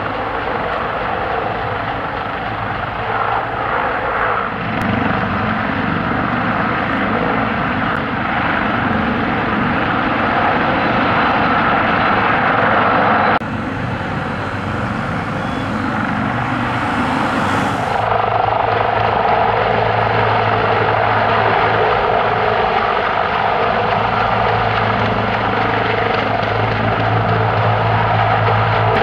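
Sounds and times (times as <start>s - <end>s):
helicopter rotor and turbine: 0.0s - 29.0s
steady low hum: 0.0s - 29.0s.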